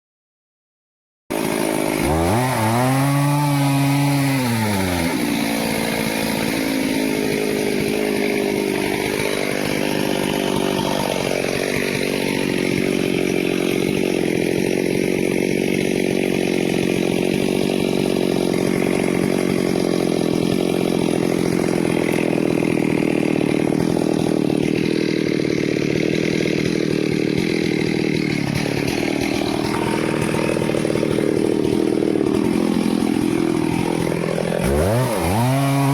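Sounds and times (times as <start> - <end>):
chainsaw cutting wood: 1.3 - 35.9.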